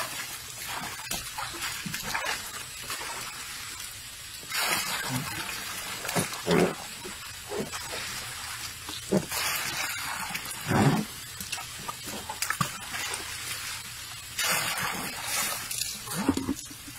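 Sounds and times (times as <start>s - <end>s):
water pouring from bucket: 0.0s - 16.9s
water splashing in plastic tub: 0.0s - 16.9s.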